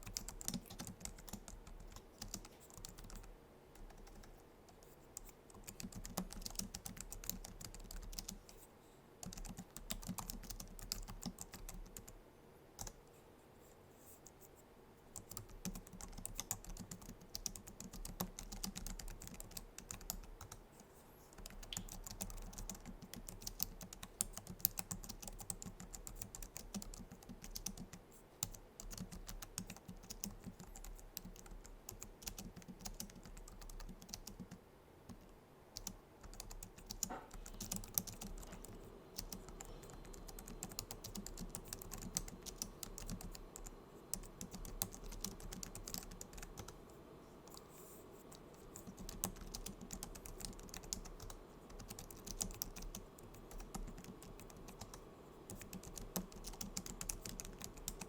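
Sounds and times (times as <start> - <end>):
keyboard typing clicks: 0.0 - 8.6, 9.2 - 12.2, 15.2 - 20.6, 21.4 - 46.8, 48.3 - 58.0.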